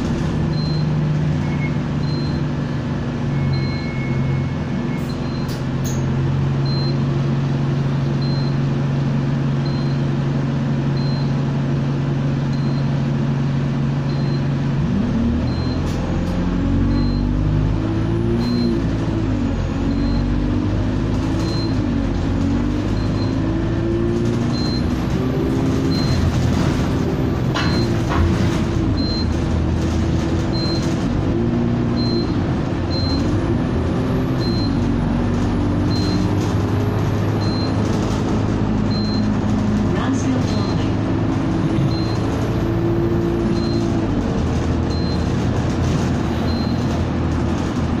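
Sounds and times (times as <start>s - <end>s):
bus engine running: 0.0s - 48.0s
road noise: 0.0s - 48.0s.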